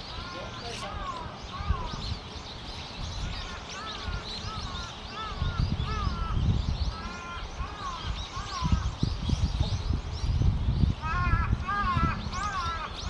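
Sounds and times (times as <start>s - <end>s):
birds calling: 0.0s - 13.0s
wind rumble on microphone: 0.9s - 13.0s.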